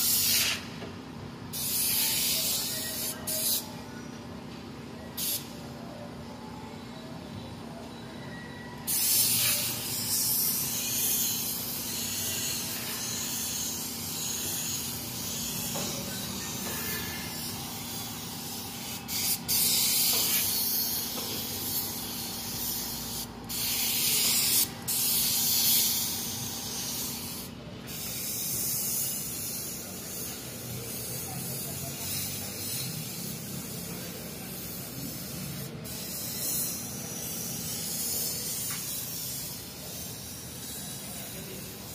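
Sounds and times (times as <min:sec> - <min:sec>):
paint spray gun hissing: 0:00.0 - 0:00.8, 0:01.5 - 0:03.7, 0:05.2 - 0:05.6, 0:08.8 - 0:41.9.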